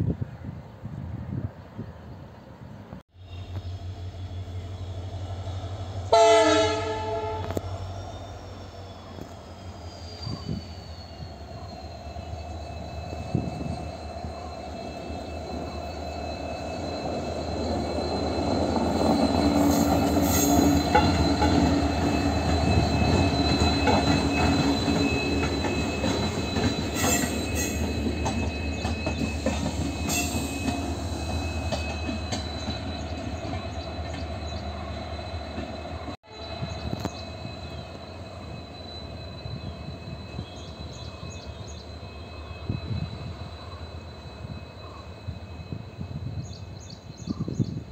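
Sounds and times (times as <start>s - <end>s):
diesel locomotive engine droning: 0.1s - 47.9s
high wheel squeal: 3.2s - 47.9s.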